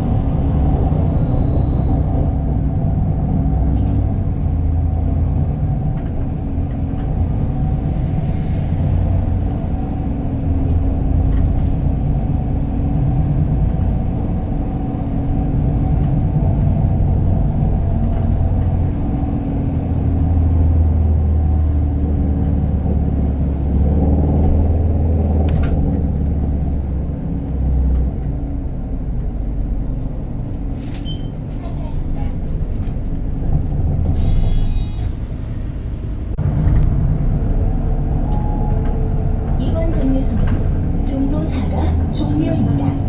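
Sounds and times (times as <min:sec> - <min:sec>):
bus engine and road rumble: 0:00.0 - 0:43.0.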